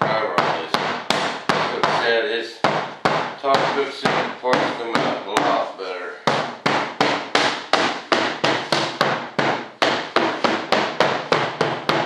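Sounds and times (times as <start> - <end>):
mallet tapping on fiberglass: 0.0 - 5.6, 6.2 - 12.0.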